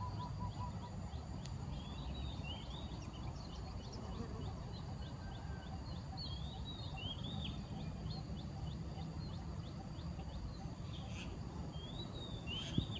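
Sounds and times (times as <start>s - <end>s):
small birds chipping: 0.0s - 12.9s.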